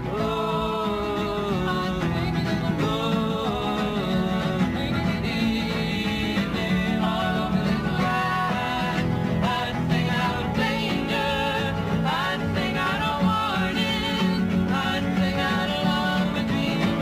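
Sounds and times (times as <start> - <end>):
country song with guitar: 0.0 - 17.0.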